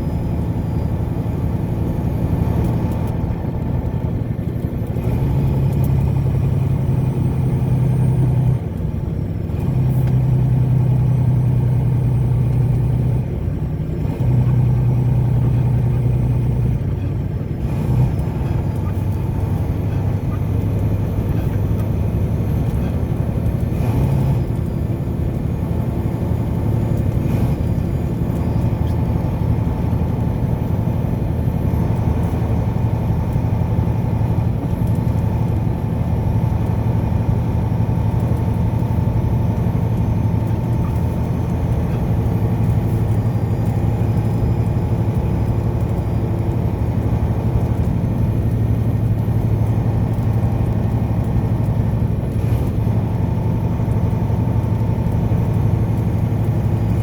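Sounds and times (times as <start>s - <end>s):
car engine and tyre drone: 0.0s - 57.0s.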